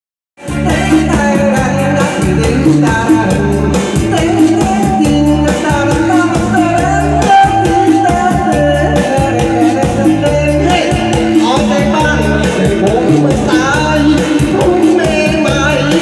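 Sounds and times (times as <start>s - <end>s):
loud music with steady beat: 0.4s - 16.0s.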